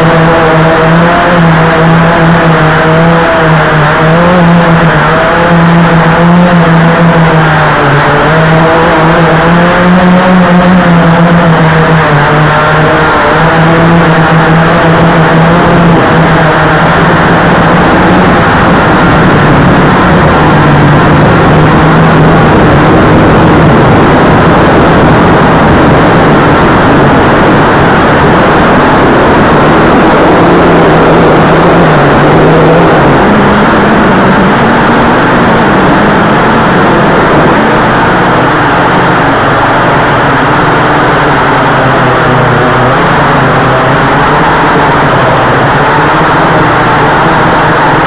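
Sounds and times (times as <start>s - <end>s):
quadcopter motors buzzing: 0.0s - 48.0s.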